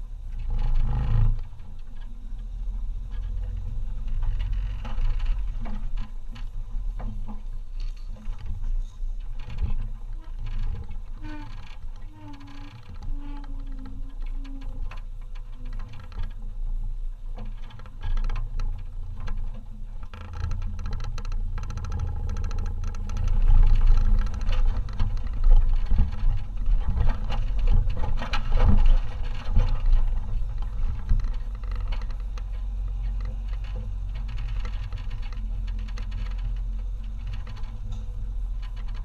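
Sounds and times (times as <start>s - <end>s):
engine and drivetrain rumble: 0.0s - 39.0s.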